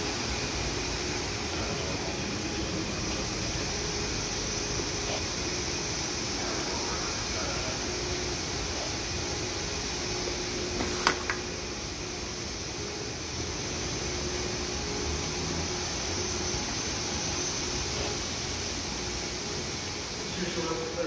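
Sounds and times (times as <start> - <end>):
mechanical hum and air noise: 0.0 - 21.0.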